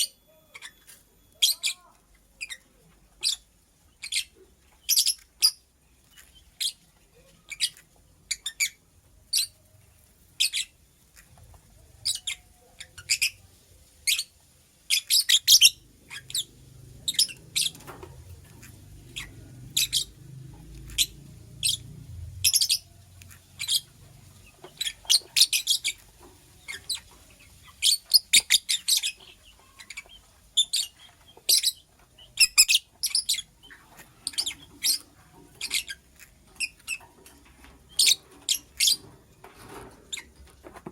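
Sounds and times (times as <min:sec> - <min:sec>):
lovebird chirping: 0:00.0 - 0:39.1.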